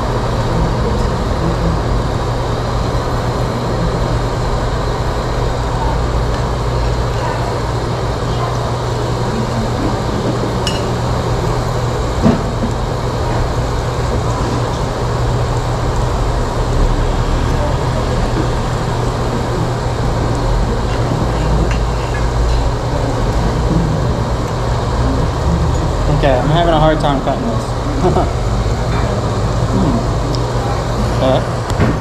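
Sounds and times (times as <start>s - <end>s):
restaurant background hum: 0.0s - 32.0s.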